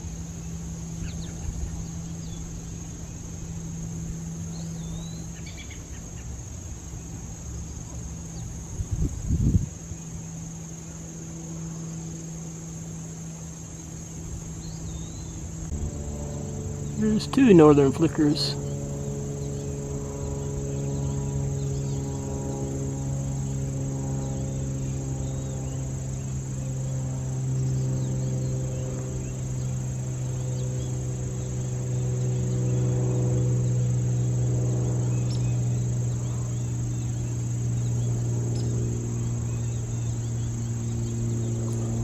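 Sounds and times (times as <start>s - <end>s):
crickets trilling: 0.0s - 42.0s
low drone with overtones: 0.0s - 42.0s.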